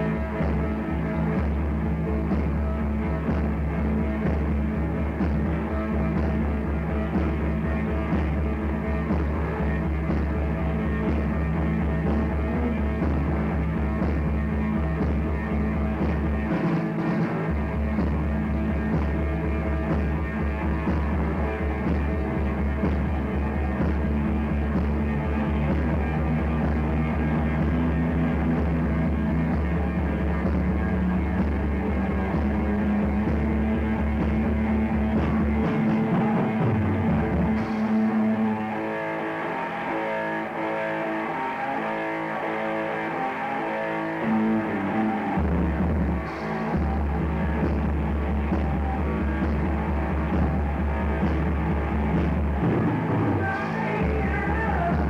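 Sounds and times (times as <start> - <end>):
rock band playing muffled: 0.0 - 55.0.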